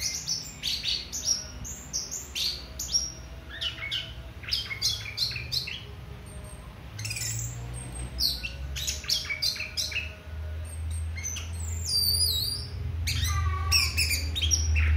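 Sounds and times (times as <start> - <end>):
thrush singing chirps and whistles: 0.0 - 14.9.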